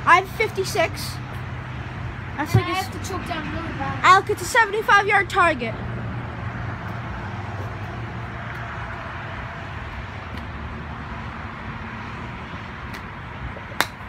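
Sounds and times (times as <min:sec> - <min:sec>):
distant traffic rumble and hiss: 0:00.0 - 0:14.0.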